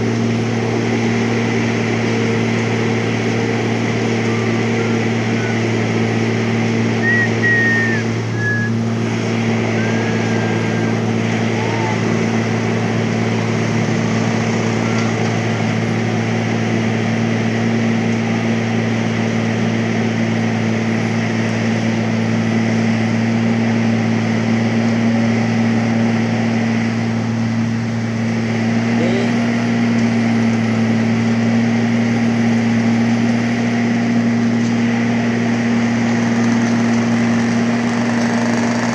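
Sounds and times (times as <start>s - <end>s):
machine engine running: 0.0s - 38.9s.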